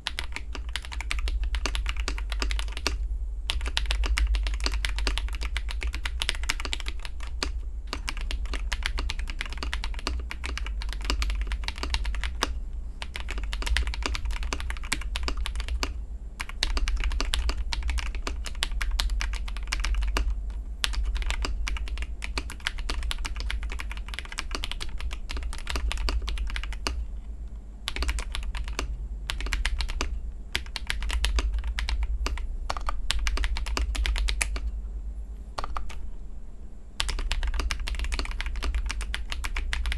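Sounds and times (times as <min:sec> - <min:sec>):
fast typing on mechanical keyboard: 0:00.0 - 0:27.0, 0:27.8 - 0:34.7, 0:35.6 - 0:36.0, 0:37.0 - 0:39.9.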